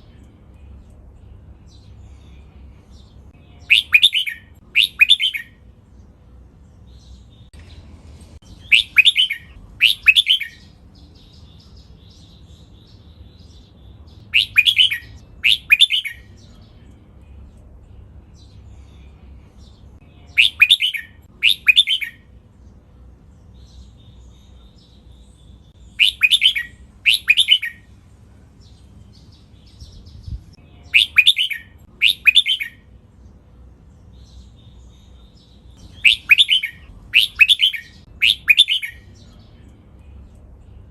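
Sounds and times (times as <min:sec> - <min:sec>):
soft bird twittering: 0:00.0 - 0:22.3, 0:23.4 - 0:28.0, 0:28.6 - 0:33.2, 0:33.9 - 0:40.9
bird song phrases: 0:00.0 - 0:40.9.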